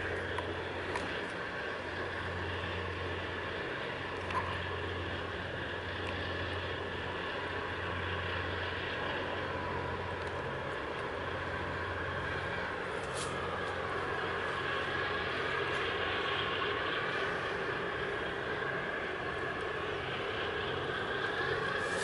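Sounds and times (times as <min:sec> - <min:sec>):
ship engines droning: 0:00.0 - 0:22.0.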